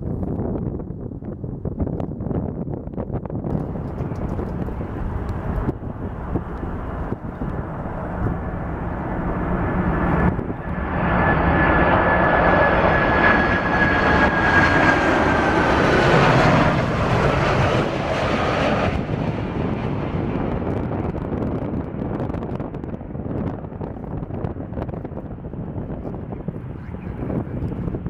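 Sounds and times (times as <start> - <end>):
high jet engine whine: 0.0 - 28.0
jet engines rumble: 0.0 - 28.0.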